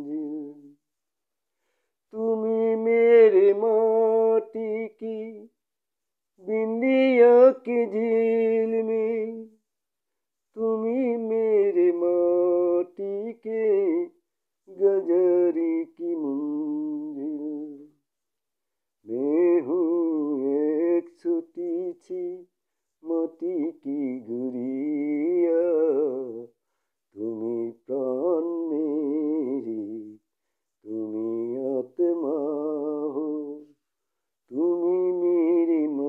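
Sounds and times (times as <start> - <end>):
man singing slow song: 0.0 - 0.8, 2.0 - 5.6, 6.3 - 9.6, 10.5 - 18.1, 19.0 - 36.0.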